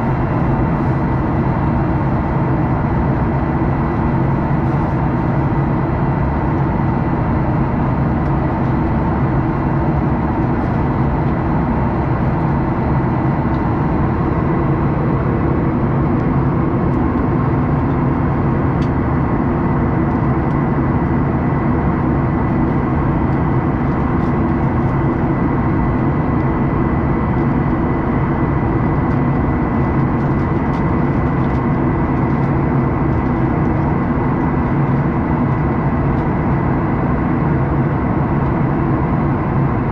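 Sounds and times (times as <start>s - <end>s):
jet engines and rushing air: 0.0s - 35.2s.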